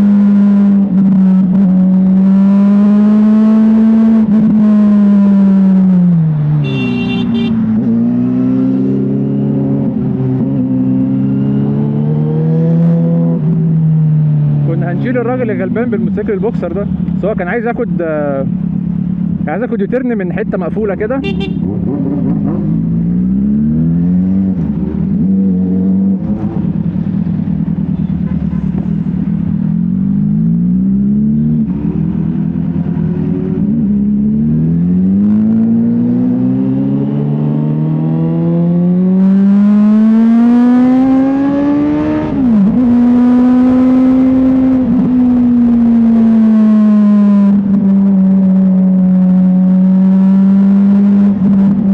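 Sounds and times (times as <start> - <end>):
motorcycle engine accelerating: 0.0 - 16.2, 21.3 - 51.9.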